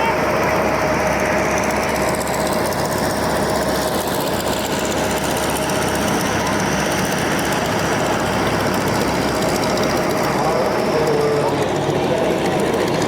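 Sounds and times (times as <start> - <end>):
piston aircraft engine drone: 0.0 - 13.0.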